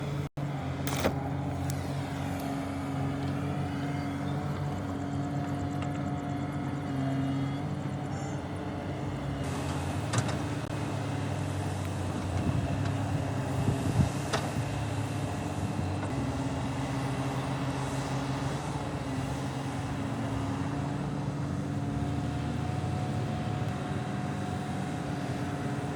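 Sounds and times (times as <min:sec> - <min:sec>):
heavy diesel engines running: 0:00.0 - 0:25.9.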